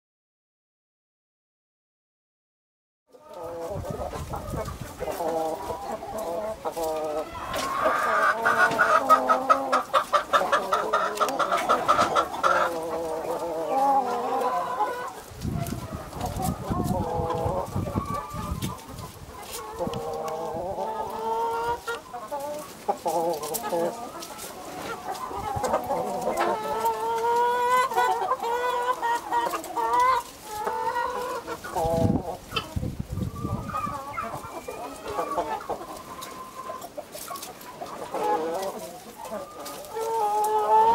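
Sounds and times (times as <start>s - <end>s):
hens clucking and calling: 3.1s - 40.9s.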